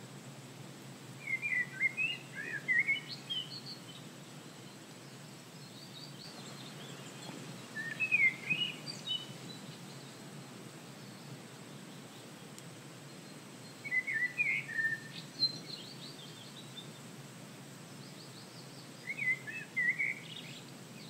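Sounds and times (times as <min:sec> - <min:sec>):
outdoor background noise: 0:00.0 - 0:21.0
songbird chirping: 0:01.0 - 0:21.0.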